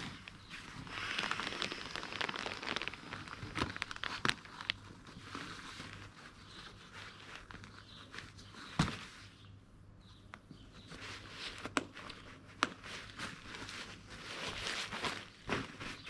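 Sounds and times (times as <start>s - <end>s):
fabric rustling: 0.0s - 9.4s, 10.9s - 16.0s.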